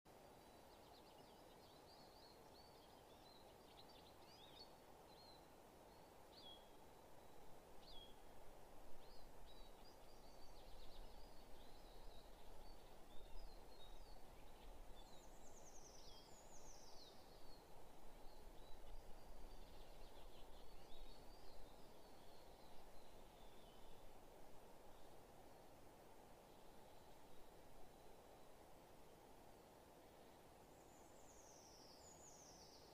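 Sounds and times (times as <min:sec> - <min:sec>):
songbirds chirping: 0:00.1 - 0:32.9
steady low hiss: 0:00.1 - 0:32.9.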